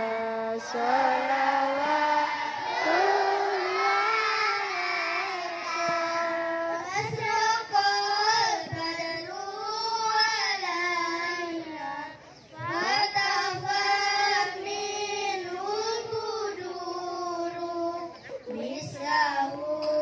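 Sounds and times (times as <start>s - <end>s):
children singing into microphones: 0.0s - 20.0s.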